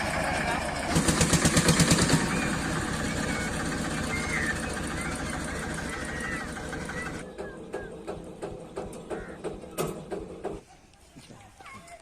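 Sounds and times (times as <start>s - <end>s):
tractor diesel engine running: 0.0s - 10.7s.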